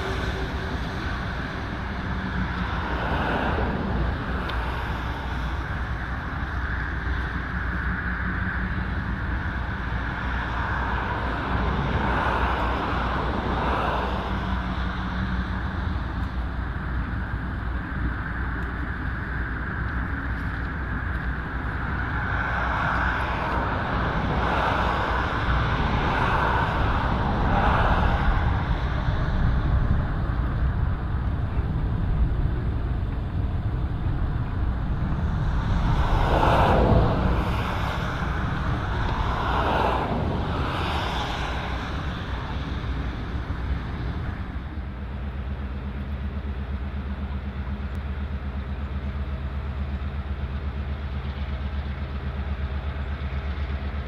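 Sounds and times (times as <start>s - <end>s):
diesel engine hum: 0.0s - 54.0s
heavy vehicles rumbling: 0.0s - 54.0s.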